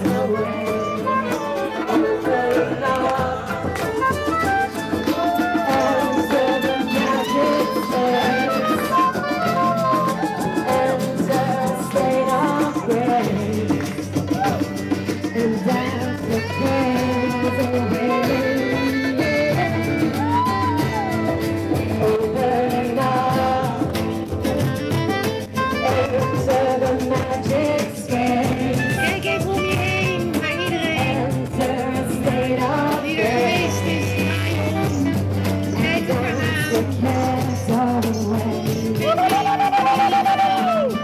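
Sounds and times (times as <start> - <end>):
people singing: 0.0 - 24.6, 25.7 - 41.0
saxophone: 0.0 - 37.8, 38.5 - 41.0
frame drum beaten with mallet: 0.0 - 40.8
strummed acoustic guitars: 0.0 - 41.0.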